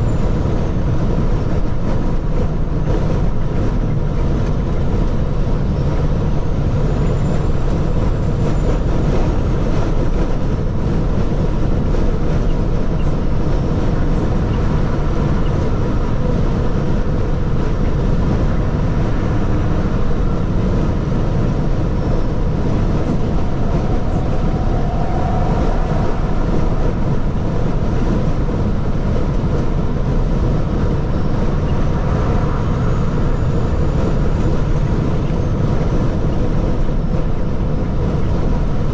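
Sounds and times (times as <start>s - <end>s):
heavy truck engine rumble: 0.0s - 38.9s.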